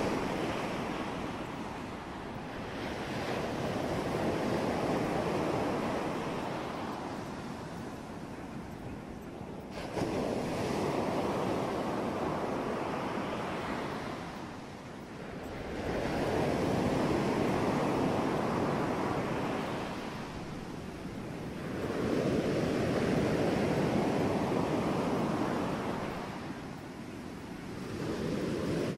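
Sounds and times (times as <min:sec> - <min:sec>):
ocean waves washing in: 0:00.0 - 0:28.9.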